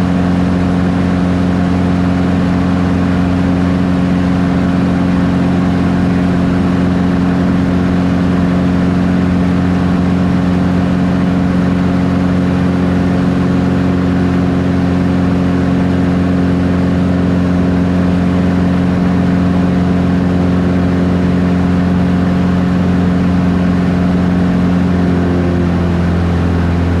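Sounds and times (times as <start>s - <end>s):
light aircraft engine drone: 0.0s - 27.0s.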